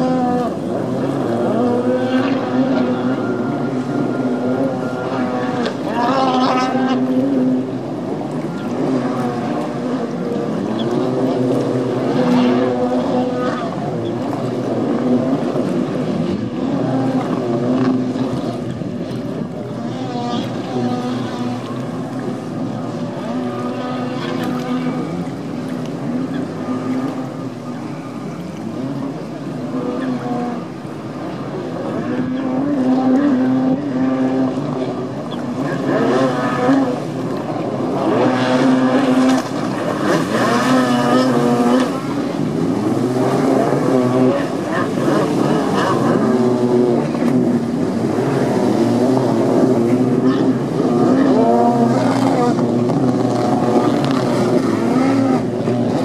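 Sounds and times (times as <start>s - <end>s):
jet ski engines revving: 0.0s - 56.0s.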